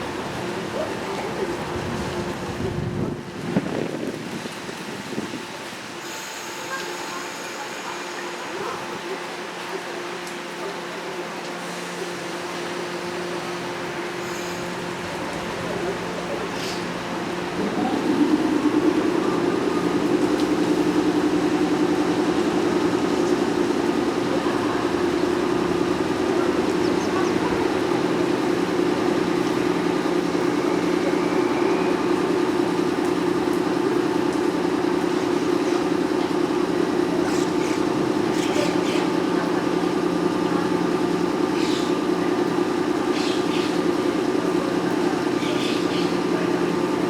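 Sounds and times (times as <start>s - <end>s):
electric train humming: 0.0s - 4.6s, 5.4s - 47.0s.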